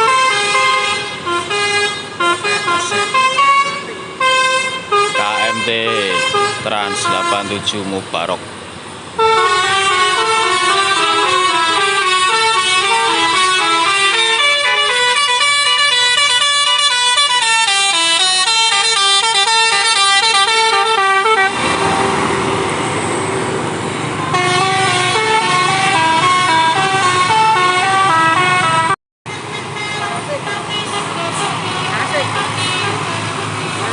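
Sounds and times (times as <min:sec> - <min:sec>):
musical air horn melody: 0:00.0 - 0:07.7, 0:09.2 - 0:22.2, 0:24.3 - 0:29.0, 0:29.8 - 0:33.6
rushing vehicle noise: 0:00.0 - 0:33.9.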